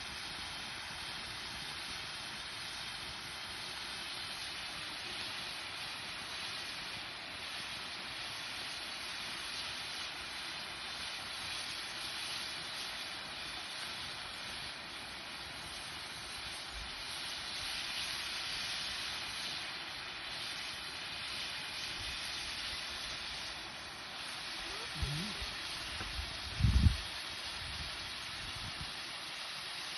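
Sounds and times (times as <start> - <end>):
steady hissing noise: 0.0 - 29.9.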